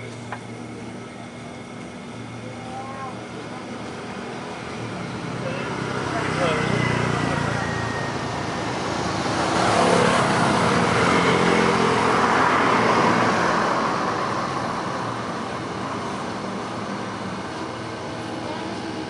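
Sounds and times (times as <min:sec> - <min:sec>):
road vehicle passing: 0:03.4 - 0:19.0.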